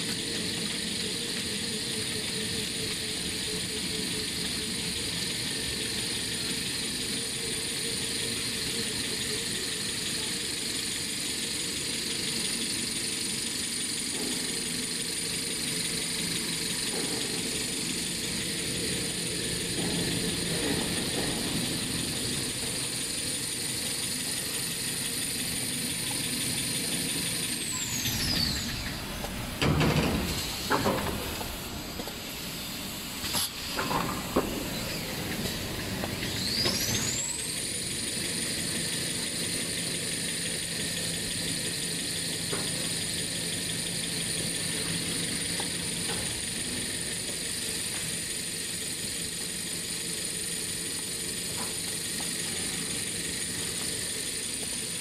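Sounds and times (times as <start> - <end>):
production line machinery whine: 0.0 - 55.0.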